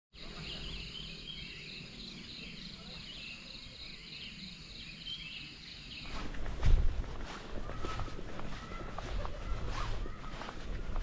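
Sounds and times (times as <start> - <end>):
insect chorus: 0.2 - 10.7
rough outdoor noise: 0.2 - 11.0
twittering bird calls: 0.2 - 11.0.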